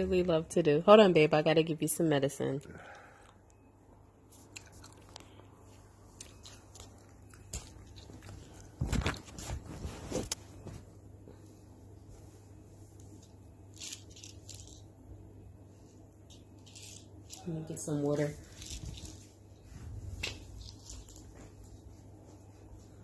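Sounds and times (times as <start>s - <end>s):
rustling and handling noises: 3.5s - 23.0s.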